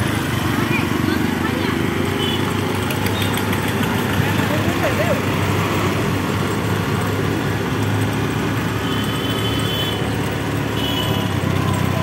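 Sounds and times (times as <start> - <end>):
traffic noise: 0.0 - 12.0
vehicle engine: 0.0 - 12.0.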